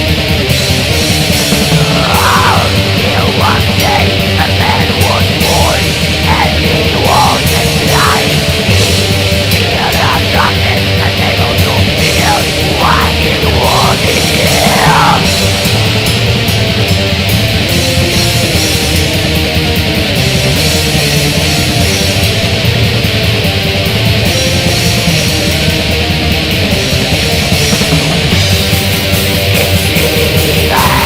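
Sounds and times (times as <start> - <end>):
distorted electric guitars: 0.0 - 31.0
fast cymbal-heavy drumming: 0.0 - 31.0
wavering guitar lead line: 0.0 - 31.0.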